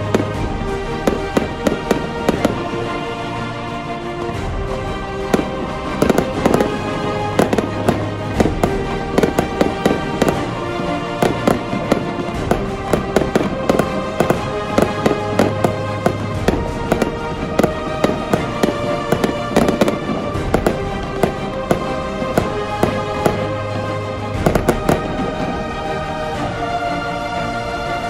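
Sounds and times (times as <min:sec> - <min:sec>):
fireworks bangs and crackles: 0:00.0 - 0:26.6
background music: 0:00.0 - 0:28.0.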